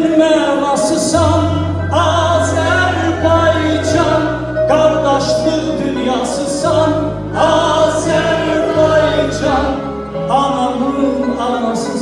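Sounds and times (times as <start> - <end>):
man singing into microphone: 0.0 - 12.0
musical accompaniment with bass: 0.0 - 12.0.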